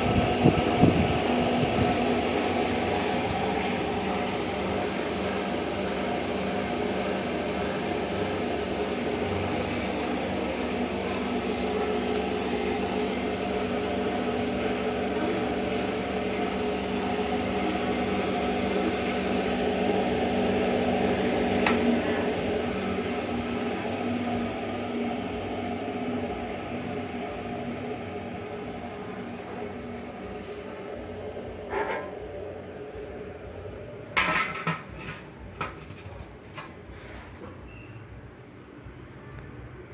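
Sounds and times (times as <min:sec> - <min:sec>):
electric spinner motor humming: 0:00.0 - 0:33.9.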